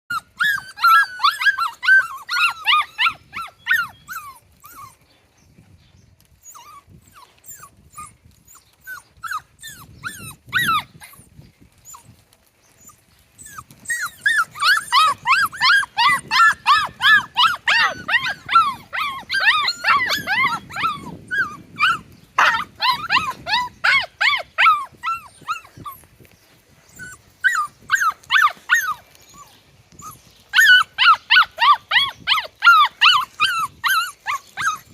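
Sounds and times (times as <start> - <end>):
puppies yipping and whining: 0.1 - 5.7, 6.3 - 34.9.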